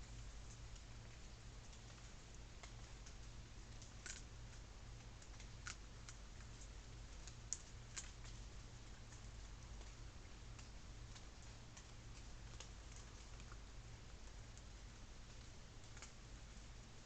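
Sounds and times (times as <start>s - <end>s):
faint low hum and hiss: 0.0s - 17.0s.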